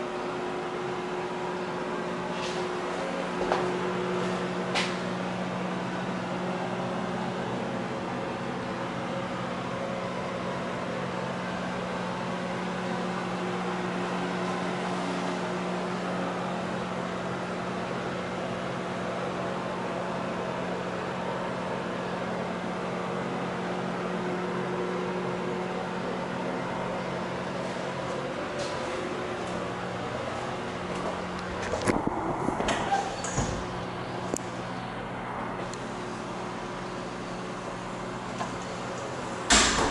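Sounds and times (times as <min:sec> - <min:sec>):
low mechanical drone: 0:00.0 - 0:39.9.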